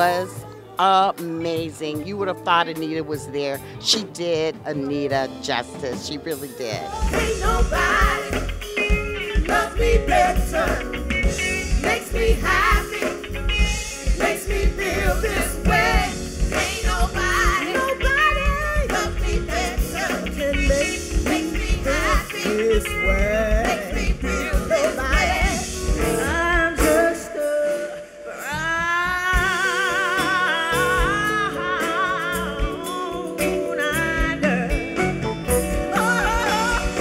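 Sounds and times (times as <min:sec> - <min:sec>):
soul band music: 0:00.0 - 0:37.0.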